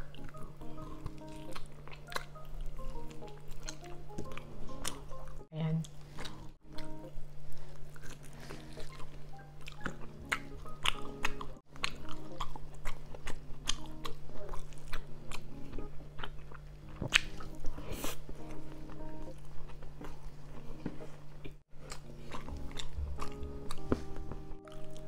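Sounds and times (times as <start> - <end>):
close chewing: 0.0 - 25.0
soft background music: 0.0 - 25.0.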